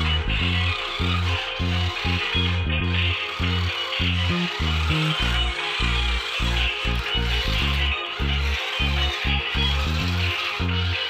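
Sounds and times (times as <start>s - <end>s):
song with repeated bass notes: 0.0s - 11.0s.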